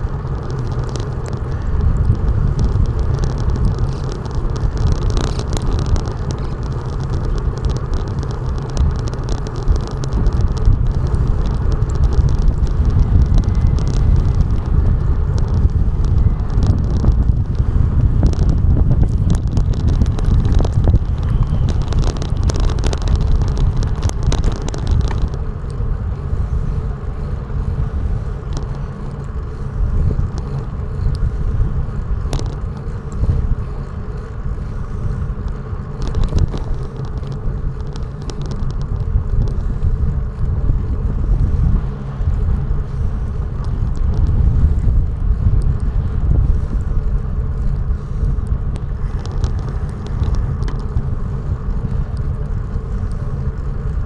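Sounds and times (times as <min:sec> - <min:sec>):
wind and road noise rumble: 0:00.0 - 0:54.0.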